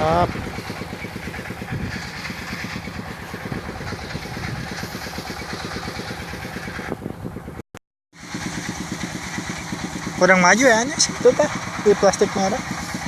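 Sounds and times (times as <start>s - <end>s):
small engine running: 0.0s - 7.6s, 8.2s - 13.0s.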